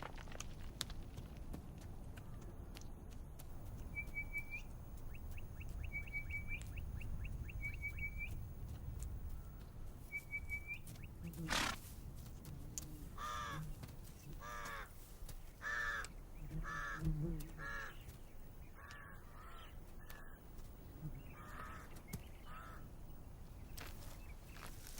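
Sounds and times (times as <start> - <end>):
birds chirping: 2.2 - 11.8, 13.1 - 24.9.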